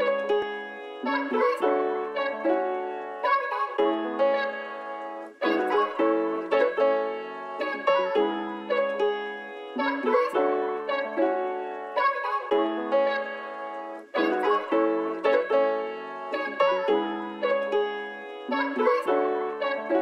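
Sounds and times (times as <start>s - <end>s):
piano background music: 0.0s - 20.0s.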